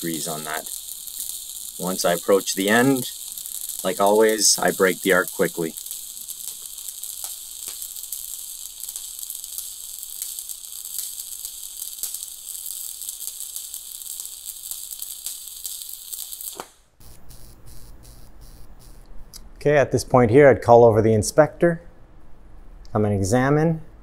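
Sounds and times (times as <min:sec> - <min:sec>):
welding arc crackling: 0:00.0 - 0:19.4.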